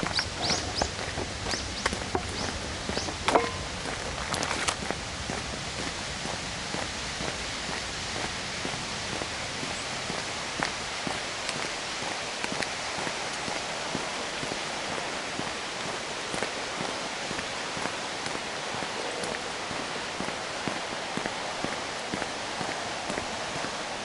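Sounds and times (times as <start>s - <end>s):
footsteps: 0.0s - 24.0s
steady hiss: 0.0s - 24.0s.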